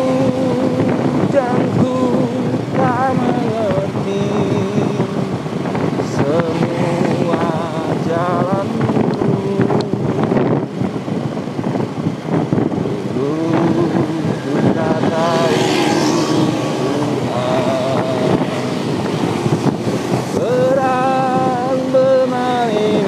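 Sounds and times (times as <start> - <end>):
person singing with vibrato: 0.0 - 11.1, 12.6 - 23.0
motorbike road noise: 0.0 - 23.0
wind rushing: 0.0 - 23.0.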